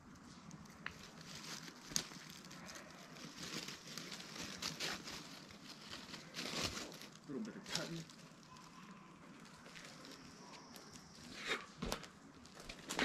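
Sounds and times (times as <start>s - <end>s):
dry leaves rustling and crackling: 0.0s - 11.3s.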